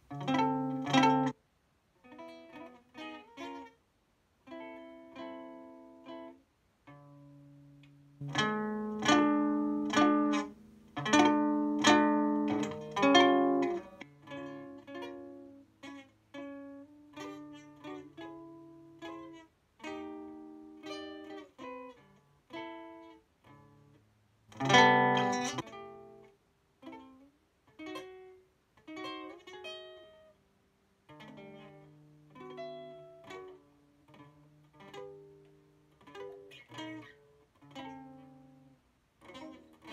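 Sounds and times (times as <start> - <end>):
fingerpicked acoustic guitar: 0.0 - 1.4, 4.5 - 39.9.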